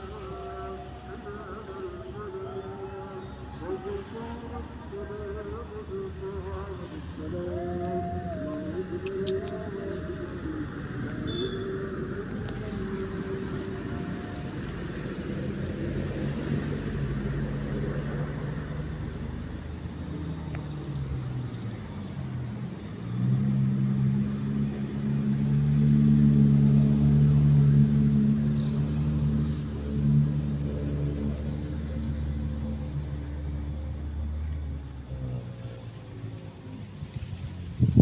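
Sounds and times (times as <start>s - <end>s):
motor vehicle engine running: 0.0s - 38.0s.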